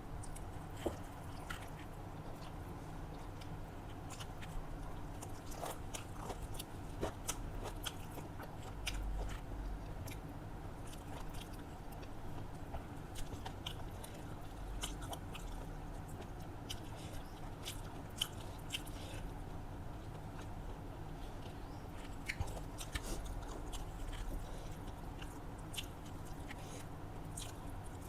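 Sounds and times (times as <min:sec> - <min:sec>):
steady low hum: 0:00.0 - 0:28.0
chewing with wet mouth smacks: 0:00.2 - 0:28.0
food crunching: 0:00.2 - 0:28.0.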